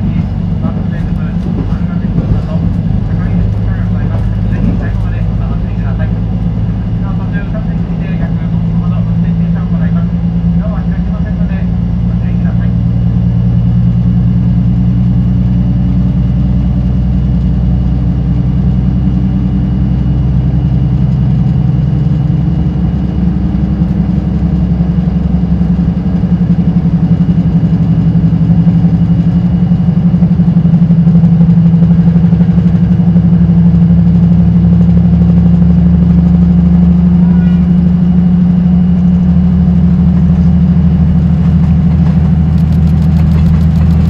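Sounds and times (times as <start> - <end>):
electric train motors and wheels rumbling: 0.0 - 44.0.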